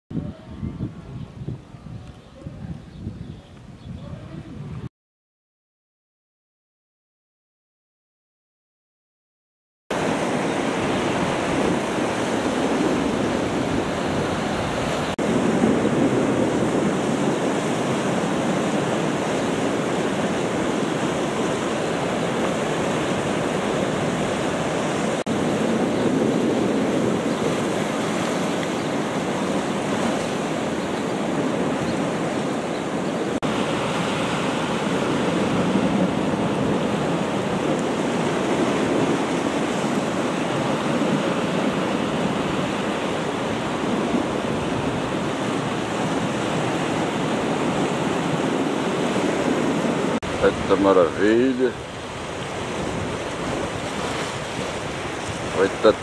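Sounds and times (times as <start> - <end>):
wind on microphone: 0.1 - 4.9, 10.0 - 56.0
surf rushing against rocks: 9.9 - 56.0.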